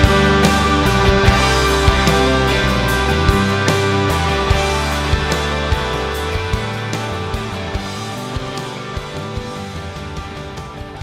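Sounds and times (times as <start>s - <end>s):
loud rock music: 0.0s - 11.0s.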